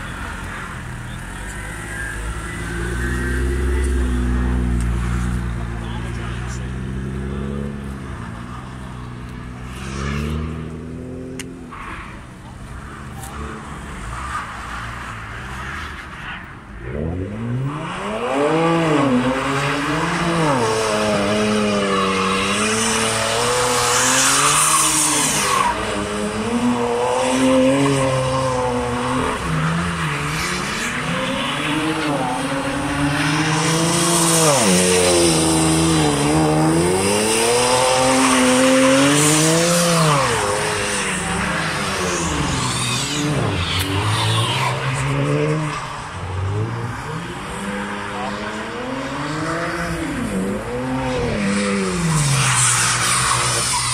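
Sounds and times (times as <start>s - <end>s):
car engine revving: 0.0s - 11.7s, 16.8s - 53.9s.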